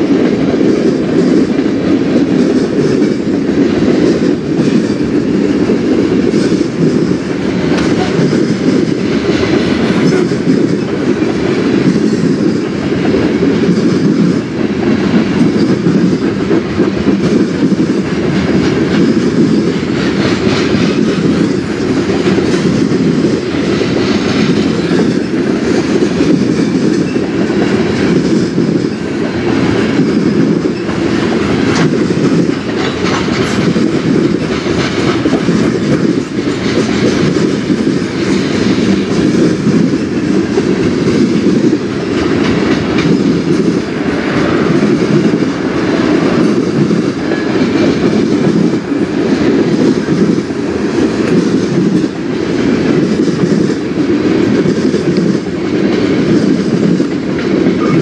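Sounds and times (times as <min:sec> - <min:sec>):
train wheels rumbling on rail: 0:00.0 - 0:58.0
wheels clacking over rail joints: 0:00.0 - 0:58.0.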